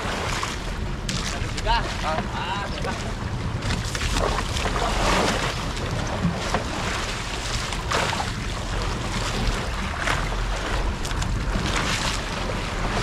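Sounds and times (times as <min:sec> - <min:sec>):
splashing: 0:00.0 - 0:13.0
steady low rumble: 0:00.0 - 0:13.0
water slapping against boat: 0:00.0 - 0:13.0.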